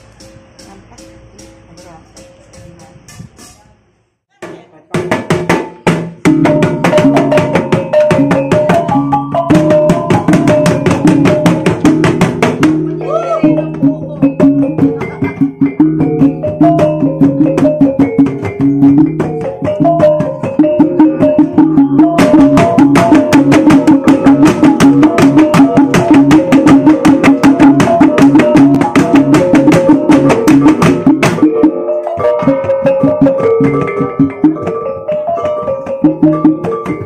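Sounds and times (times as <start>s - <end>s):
hand drums beating: 4.4s - 37.0s.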